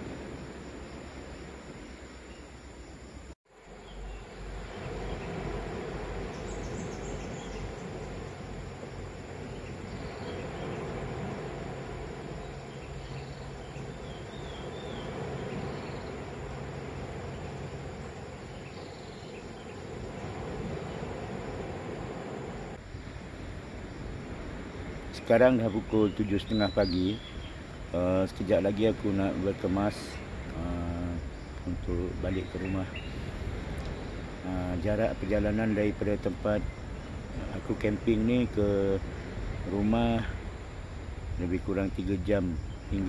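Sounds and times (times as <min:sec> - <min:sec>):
steady wash of outdoor noise: 0:00.0 - 0:43.0.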